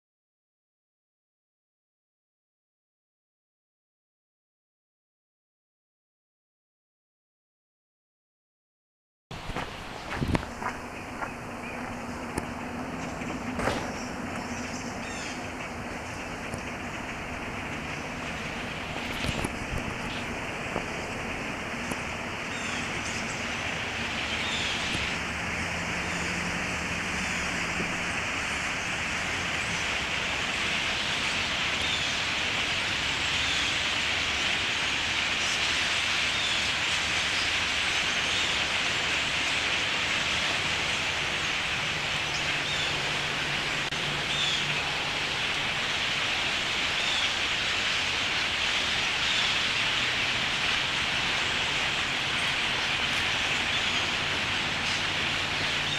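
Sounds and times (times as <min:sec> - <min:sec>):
flock of birds chattering: 0:09.4 - 0:55.9.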